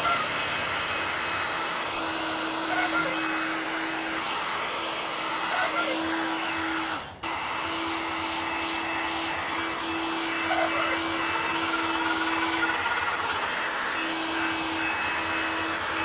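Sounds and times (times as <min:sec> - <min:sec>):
heat gun whirring: 0:00.0 - 0:16.0.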